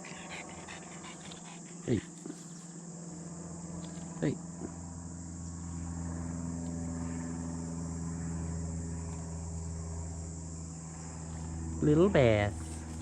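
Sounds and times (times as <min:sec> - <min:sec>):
distant motor humming: 0:00.0 - 0:13.0
insects chirring: 0:00.0 - 0:13.0.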